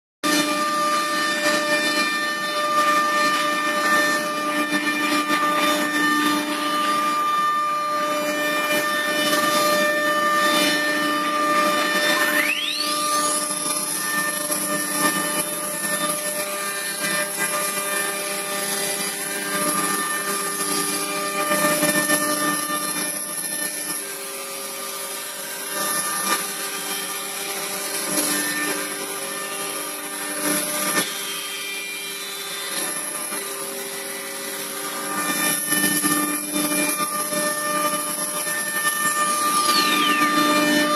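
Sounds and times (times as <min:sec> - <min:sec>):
wood router whining: 0:00.2 - 0:40.9.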